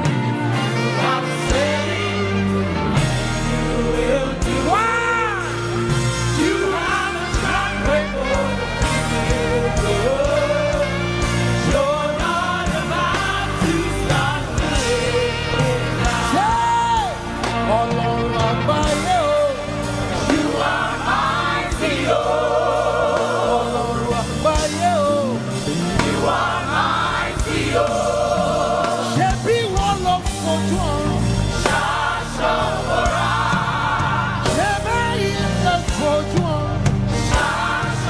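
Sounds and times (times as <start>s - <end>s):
band with sustained bass: 0.0s - 38.0s
choir singing: 0.0s - 38.0s.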